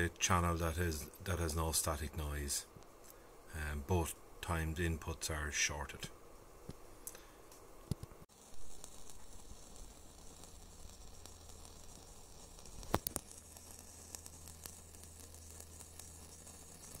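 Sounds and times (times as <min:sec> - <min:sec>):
speaker static crackle and hiss: 0:00.0 - 0:17.0.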